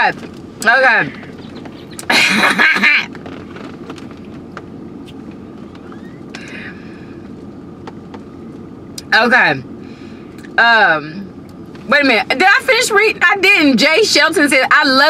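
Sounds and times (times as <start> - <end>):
low car cabin hum: 0.0 - 15.0.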